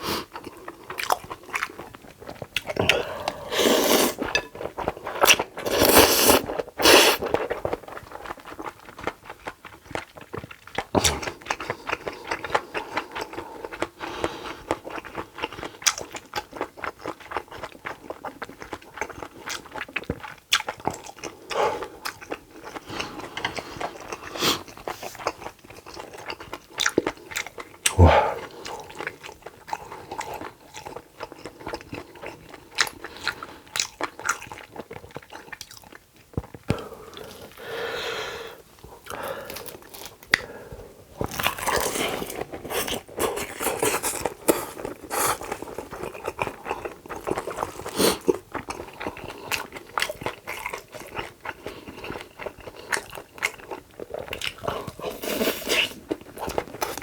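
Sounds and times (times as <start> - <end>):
person chewing and crunching: 0.0 - 38.0, 38.8 - 57.0.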